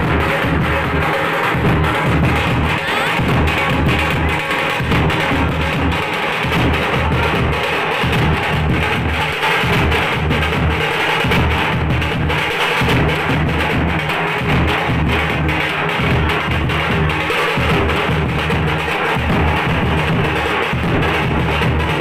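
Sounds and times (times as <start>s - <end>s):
loud drum-led music: 0.0s - 22.0s.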